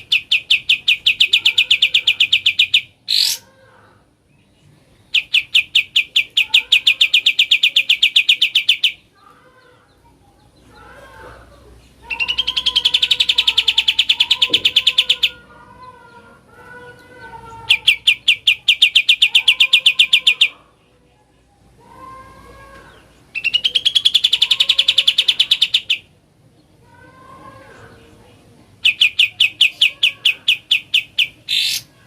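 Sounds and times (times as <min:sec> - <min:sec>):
birds warbling softly: 0:00.0 - 0:32.0.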